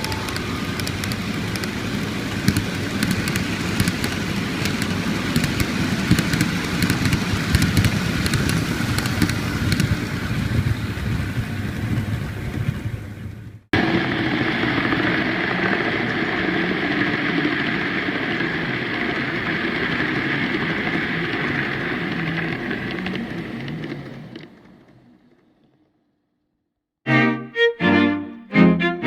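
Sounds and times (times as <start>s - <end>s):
model train rumbling: 0.0s - 16.9s, 17.6s - 25.3s.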